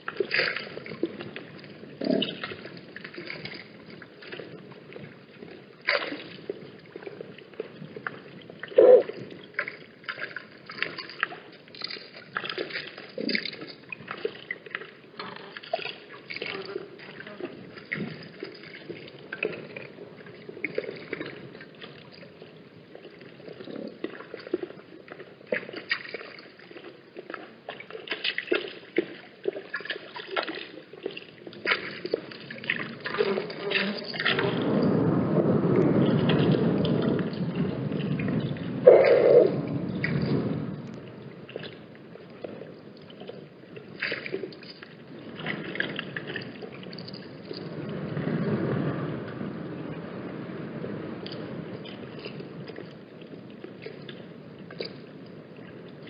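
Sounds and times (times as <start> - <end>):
water splashing and sloshing: 0.0 - 56.0
wind rumbling on microphone: 0.0 - 56.0.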